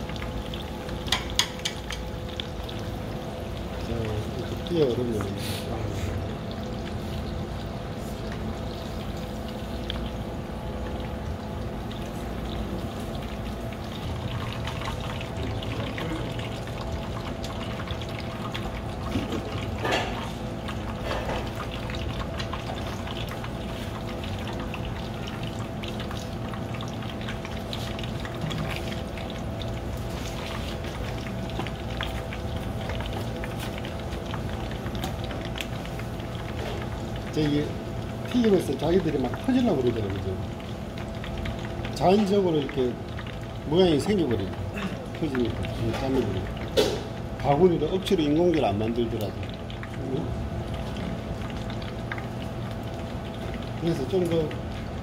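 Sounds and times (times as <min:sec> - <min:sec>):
oil sizzling and crackling: 0:00.0 - 0:55.0.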